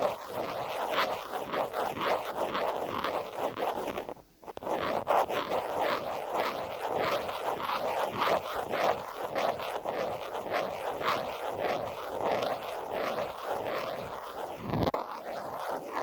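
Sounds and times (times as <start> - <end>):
scratching on a phone case: 0.0 - 16.0.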